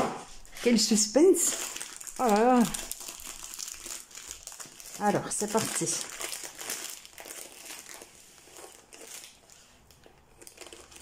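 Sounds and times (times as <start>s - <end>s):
plastic wrapping crinkling: 0.3s - 11.0s.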